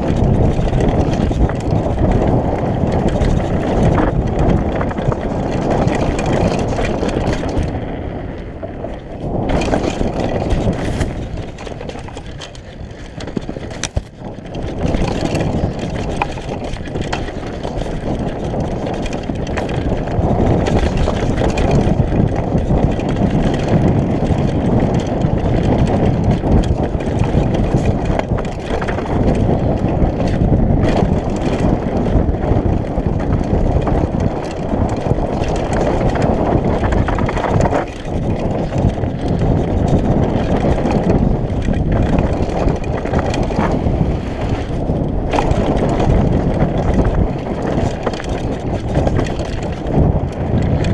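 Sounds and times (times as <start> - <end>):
bike tyres rumbling on dirt: 0.0 - 50.9
wind buffeting microphone: 0.0 - 50.9
bike knocking over roots: 9.2 - 50.9.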